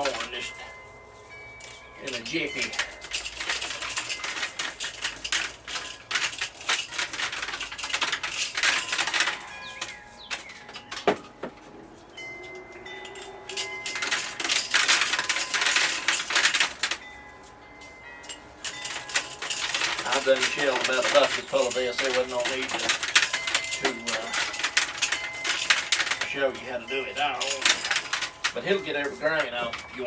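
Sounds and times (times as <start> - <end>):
corn sheller clicking and rattling: 0.0 - 11.6, 12.4 - 17.1, 18.2 - 30.0.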